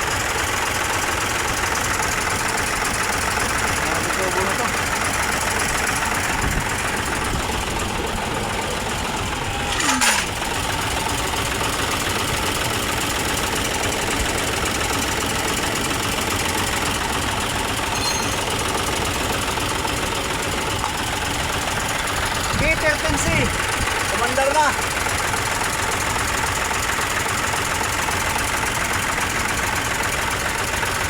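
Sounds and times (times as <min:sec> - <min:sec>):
diesel engine clattering: 0:00.0 - 0:31.0.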